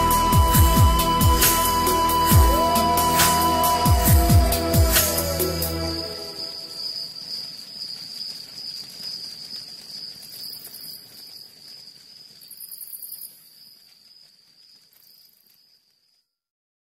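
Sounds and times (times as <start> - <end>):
very high insect chirping: 0.0 - 16.2
insects trilling: 0.0 - 16.3.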